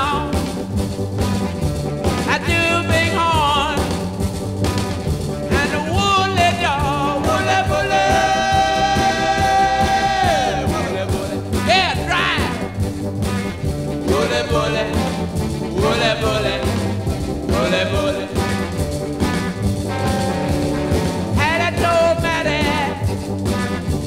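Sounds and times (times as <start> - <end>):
oldies song with band: 0.0 - 24.0.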